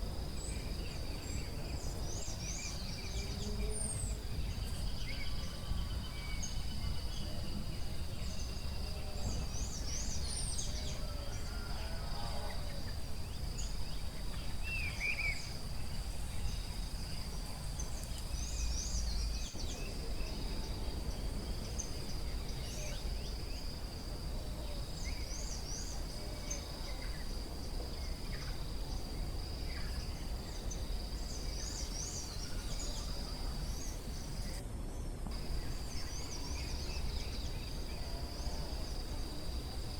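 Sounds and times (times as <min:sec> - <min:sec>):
high insect trill: 0:00.0 - 0:34.6, 0:35.4 - 0:39.9.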